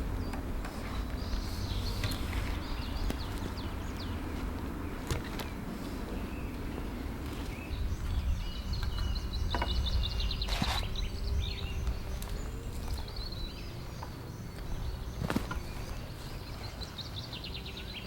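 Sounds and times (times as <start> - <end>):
steady low rumble: 0.0 - 16.8.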